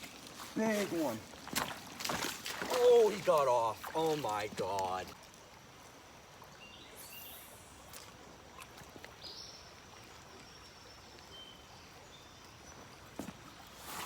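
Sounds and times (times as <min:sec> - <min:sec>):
low water noise: 0:00.0 - 0:14.0.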